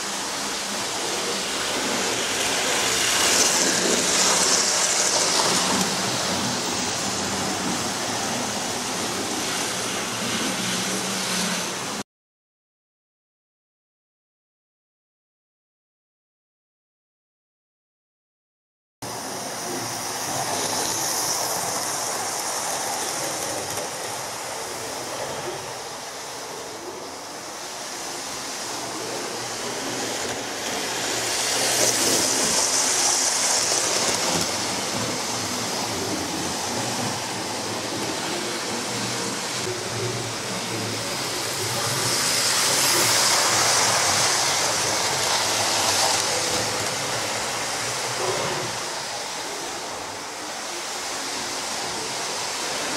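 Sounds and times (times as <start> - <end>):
model trains running on track: 0.0 - 12.0, 19.0 - 52.9.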